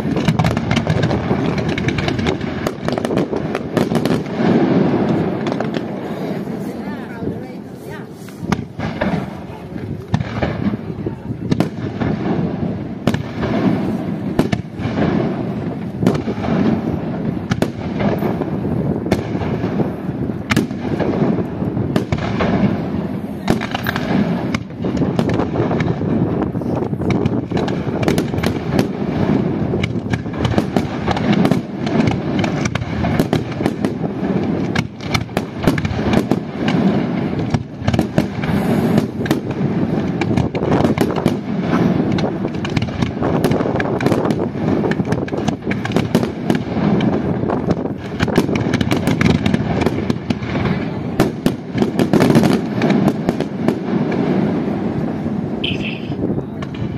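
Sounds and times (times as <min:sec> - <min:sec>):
fireworks booming bursts: 0:00.0 - 0:56.9
fireworks sharp cracks and bangs: 0:00.0 - 0:56.9.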